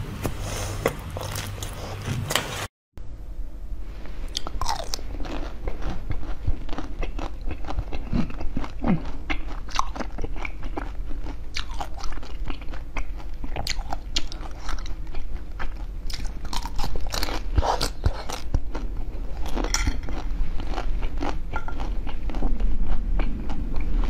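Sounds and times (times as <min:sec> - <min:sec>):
crisp crunching and chewing: 0:04.3 - 0:24.0.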